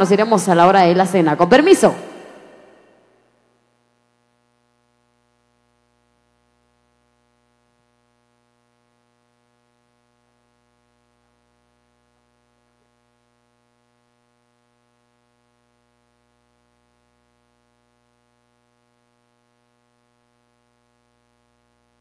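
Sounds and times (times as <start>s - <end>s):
faint electrical hum and hiss: 0.0s - 22.0s.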